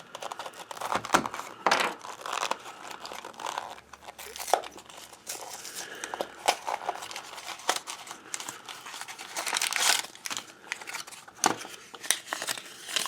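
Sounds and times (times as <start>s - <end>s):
toy packaging crinkling and tearing: 0.0s - 13.0s.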